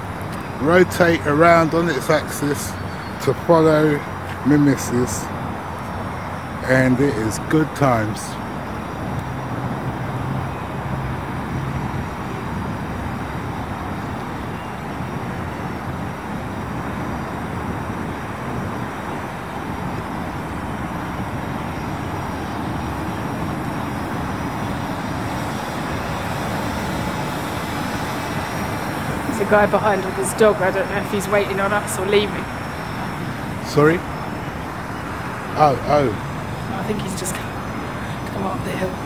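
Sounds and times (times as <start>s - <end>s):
drone propellers whining: 0.0s - 39.0s
steady rushing outdoor noise: 0.0s - 39.0s.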